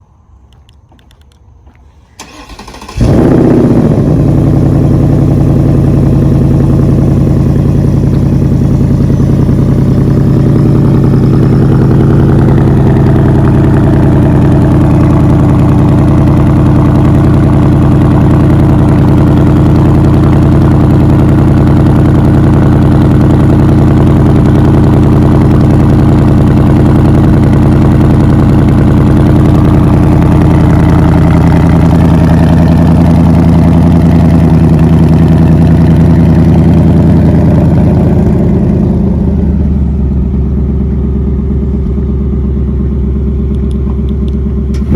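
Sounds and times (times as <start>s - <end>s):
car engine idling loudly: 2.1s - 44.9s
car engine starting and revving: 2.1s - 44.9s.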